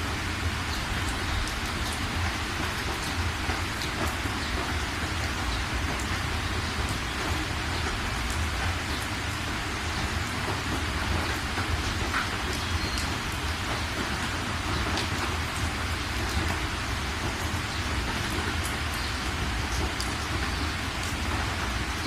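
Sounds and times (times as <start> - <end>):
heavy rain falling: 0.0 - 22.0
raindrops ticking: 0.0 - 22.0.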